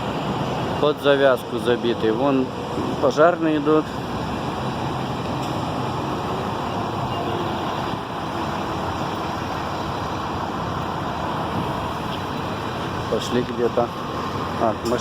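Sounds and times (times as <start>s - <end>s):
trucks idling: 0.0s - 15.0s.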